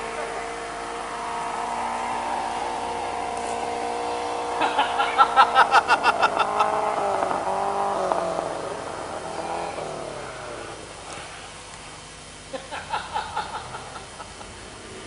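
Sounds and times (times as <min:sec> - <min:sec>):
rally car engine running: 0:00.0 - 0:15.0
rapid stuttering engine pulse: 0:00.0 - 0:15.0.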